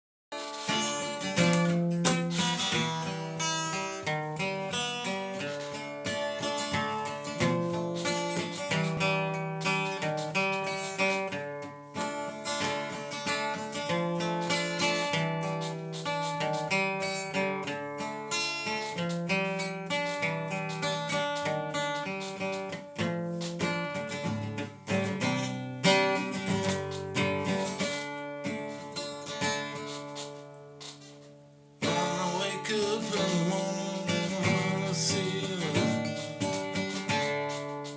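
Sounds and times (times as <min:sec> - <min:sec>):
acoustic guitar picking and strumming: 0:00.3 - 0:37.9.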